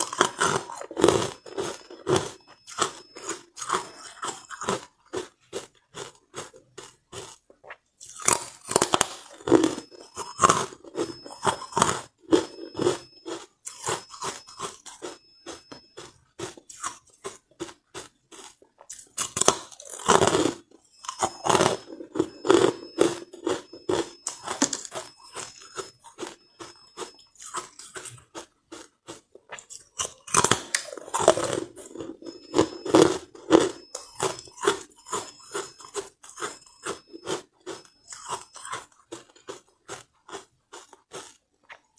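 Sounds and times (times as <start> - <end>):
ice crunching while chewed: 0.0 - 41.9.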